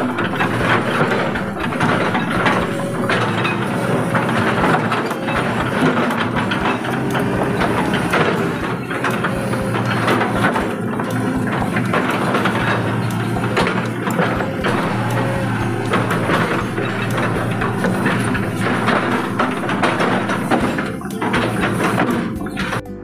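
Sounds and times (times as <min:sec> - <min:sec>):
excavator diesel engine running: 0:00.0 - 0:22.9
metallic clanks and rattles: 0:00.0 - 0:22.9.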